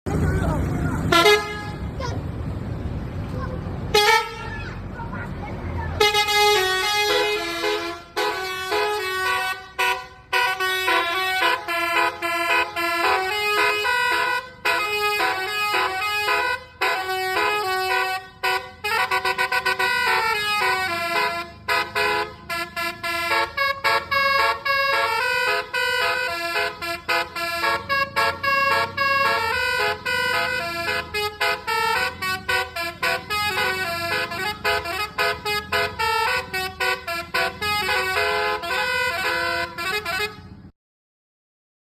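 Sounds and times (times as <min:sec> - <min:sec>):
musical bus horn playing tune: 0:01.0 - 0:02.0, 0:03.9 - 0:04.7, 0:06.0 - 0:40.7.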